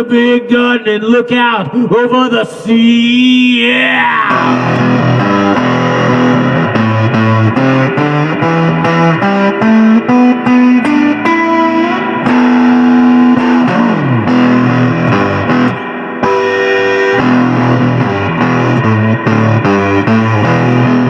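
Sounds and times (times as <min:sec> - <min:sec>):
distorted electric guitar: 0:02.5 - 0:21.0.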